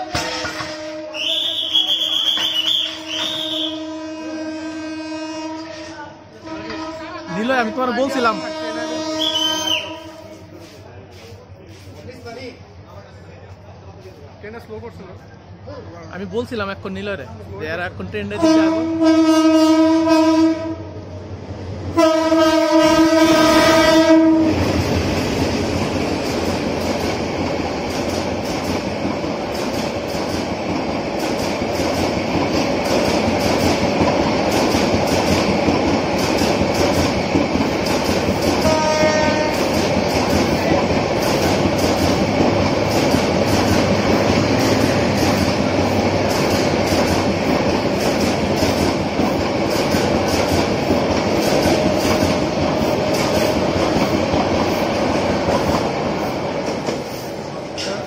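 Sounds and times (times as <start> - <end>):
train passing with wheel clatter: 0.0 - 58.0.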